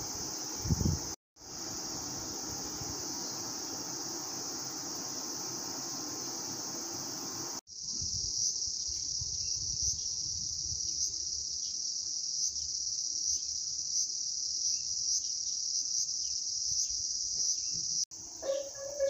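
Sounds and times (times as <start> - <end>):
cicadas buzzing: 0.0 - 19.0.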